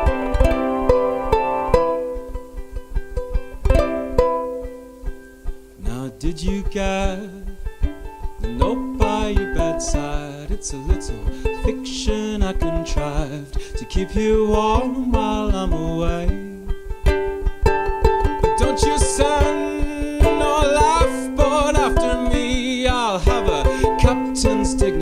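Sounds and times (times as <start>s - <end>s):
person singing: 0.0s - 2.4s, 5.8s - 17.4s, 18.0s - 25.0s.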